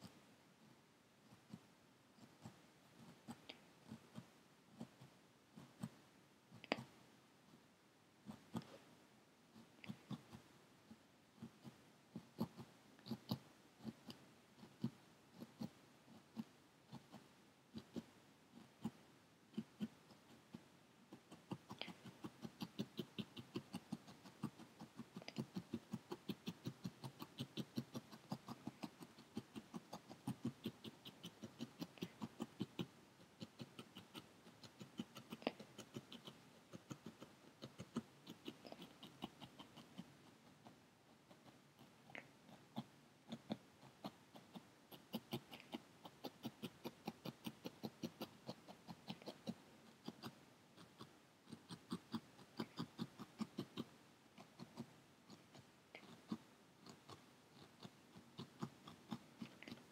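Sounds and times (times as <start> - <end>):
felting needle poking into foam: 1.3 - 7.0, 9.6 - 59.9.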